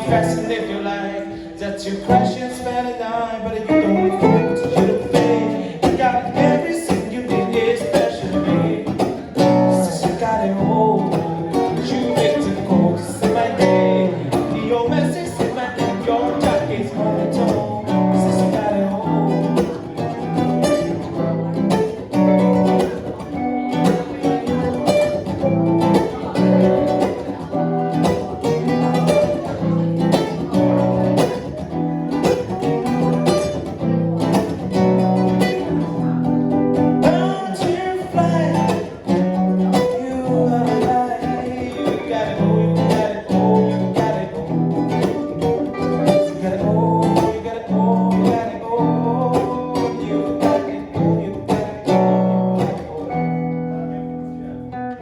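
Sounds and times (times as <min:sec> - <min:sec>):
guitar strumming and picking: 0:00.0 - 0:55.0.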